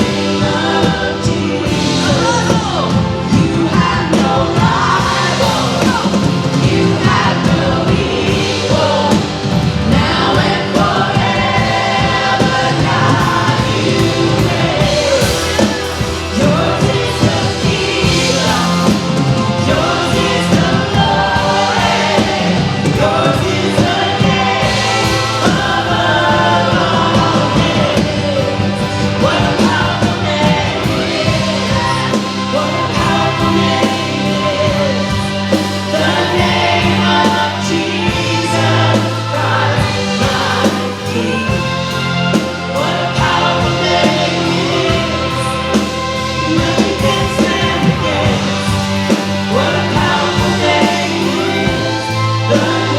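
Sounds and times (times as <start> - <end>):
person singing: 0.0 - 52.9
worship band playing: 0.0 - 52.9.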